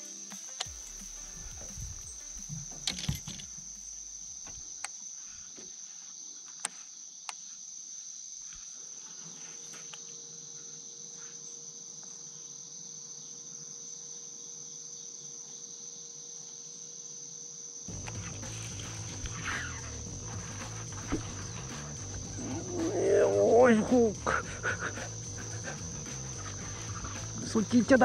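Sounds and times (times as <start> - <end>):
insect chorus: 0.0 - 28.0.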